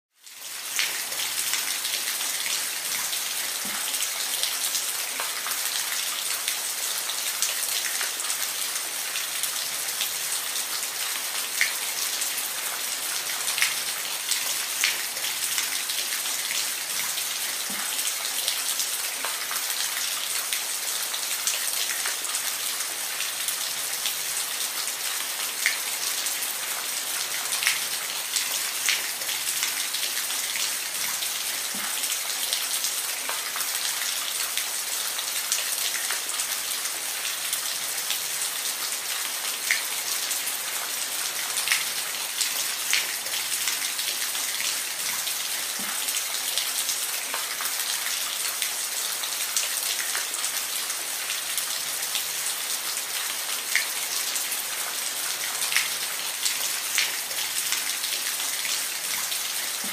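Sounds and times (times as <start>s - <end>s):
rain falling: 0.2s - 59.9s.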